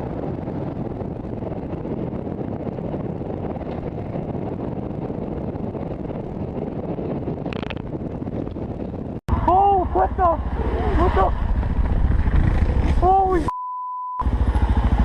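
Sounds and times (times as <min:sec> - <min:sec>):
vehicle road noise: 0:00.0 - 0:13.5, 0:14.2 - 0:15.0
wind noise on microphone: 0:00.0 - 0:13.5.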